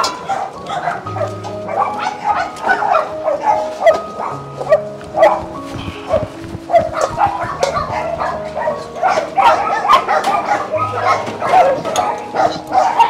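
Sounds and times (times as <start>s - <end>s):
background music: 0.0s - 13.0s
dogs barking and yipping: 0.0s - 13.0s.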